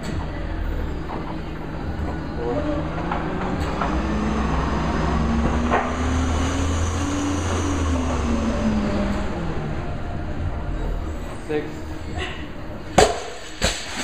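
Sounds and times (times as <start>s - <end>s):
low mechanical rumble with hum: 0.0s - 14.0s.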